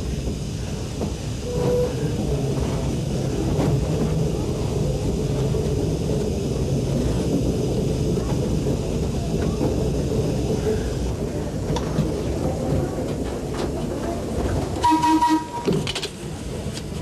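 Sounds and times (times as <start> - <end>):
trolley car rumbling on track: 0.0 - 17.0.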